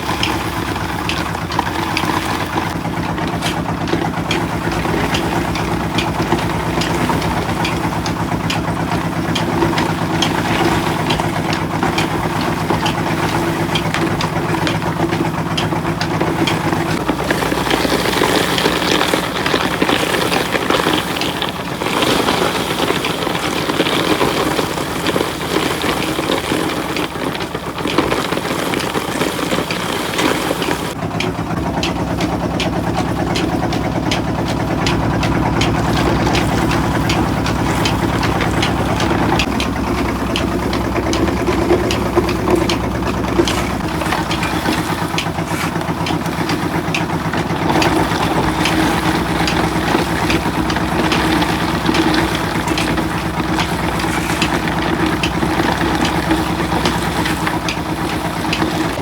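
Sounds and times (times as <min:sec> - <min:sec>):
crushing machinery humming: 0:00.0 - 0:59.0
harsh grinding: 0:00.0 - 0:59.0
rapid knocking and rattling: 0:00.0 - 0:59.0.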